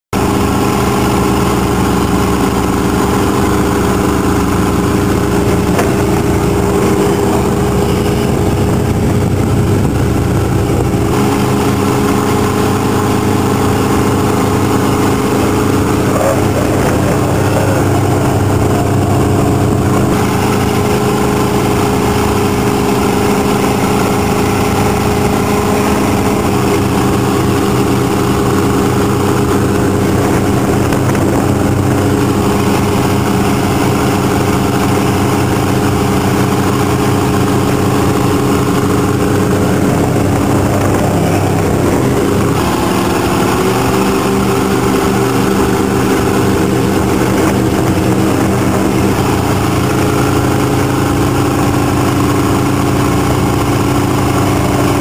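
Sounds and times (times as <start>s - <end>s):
powerboat engines running: 0.2s - 55.0s
water rushing: 0.2s - 55.0s
wind: 0.2s - 55.0s.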